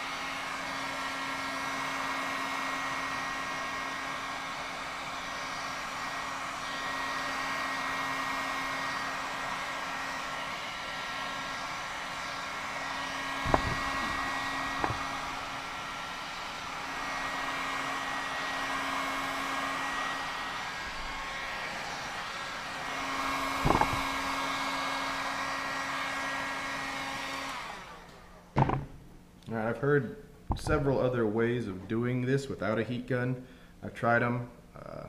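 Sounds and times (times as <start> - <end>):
heat gun blowing with motor hum: 0.0 - 29.3, 30.4 - 31.3.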